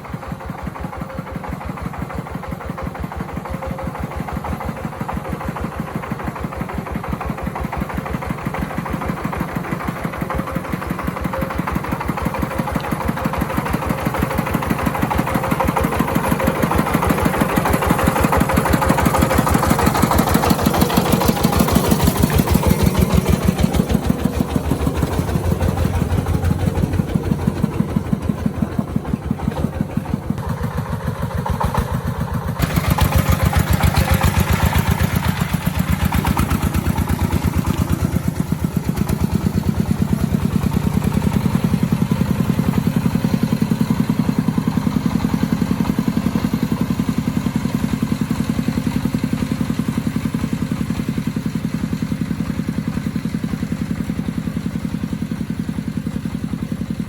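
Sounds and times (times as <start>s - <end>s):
vehicle engine chugging: 0.0s - 57.0s.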